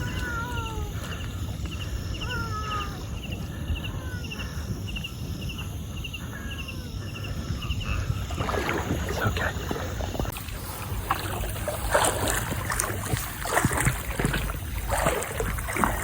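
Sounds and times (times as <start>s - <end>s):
low rumble of water: 0.0s - 16.0s.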